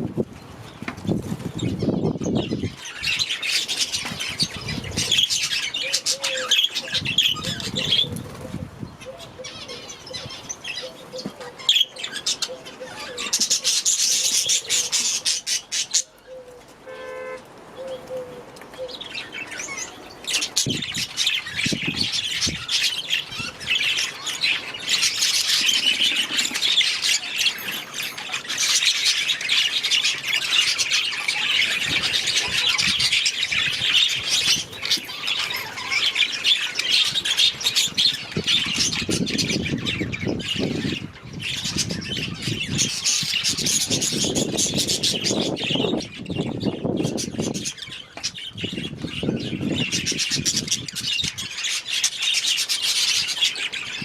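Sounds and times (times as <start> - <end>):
budgerigars chattering and squawking: 1.6 - 16.1, 18.8 - 54.0.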